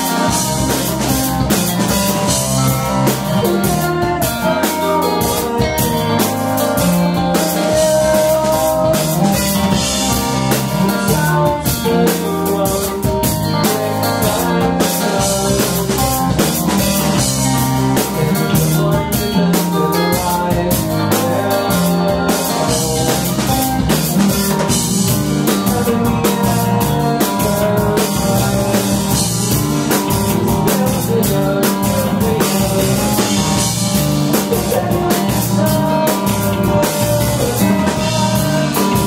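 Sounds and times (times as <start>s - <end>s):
drum kit: 0.0s - 39.0s
electric guitar: 0.0s - 39.0s.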